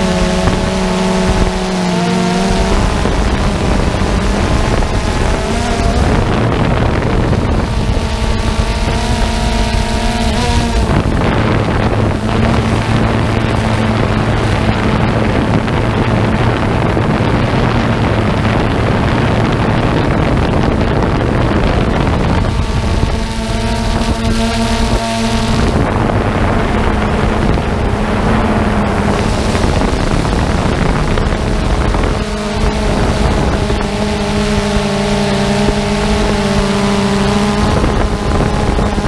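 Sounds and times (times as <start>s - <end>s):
drone propellers buzzing: 0.0s - 39.0s
high motor whine: 0.0s - 39.0s
wind on microphone: 0.0s - 39.0s.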